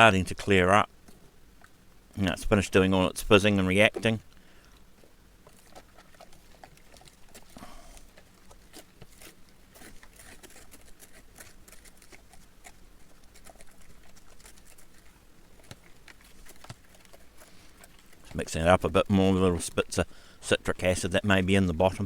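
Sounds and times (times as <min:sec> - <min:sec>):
faint crackling and ticking liquid: 0:00.0 - 0:22.0.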